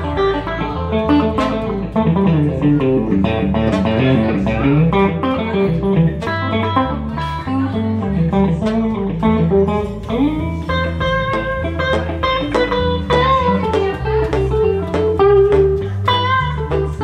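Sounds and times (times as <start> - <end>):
bass line: 0.0 - 17.0
electric guitar lead lines: 0.0 - 17.0.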